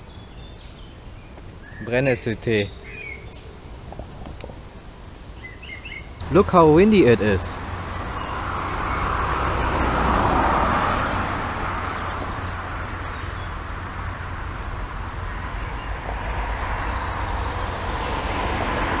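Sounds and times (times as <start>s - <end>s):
wind gusting through trees: 0.0s - 19.0s
wind rumble on microphone: 2.6s - 19.0s.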